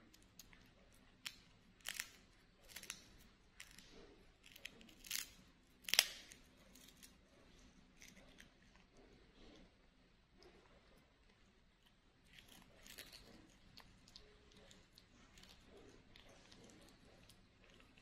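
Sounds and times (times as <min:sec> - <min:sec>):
monkey eating crackling and smacking: 0:00.0 - 0:09.7, 0:10.4 - 0:18.0.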